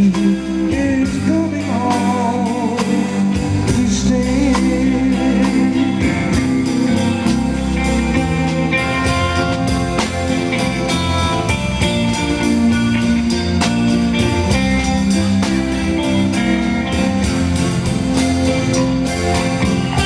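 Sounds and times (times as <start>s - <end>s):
live band playing instrumental: 0.0s - 20.0s.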